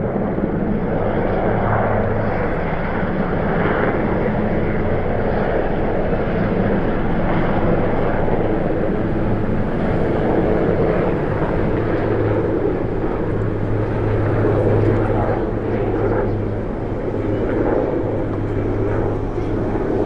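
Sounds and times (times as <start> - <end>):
helicopter turbine and rotor drone: 0.0 - 20.0.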